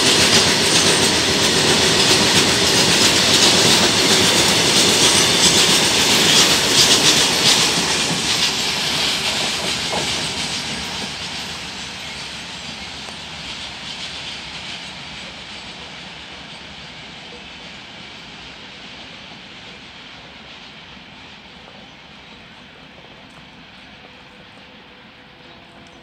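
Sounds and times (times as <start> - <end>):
steady train hiss: 0.0 - 26.0.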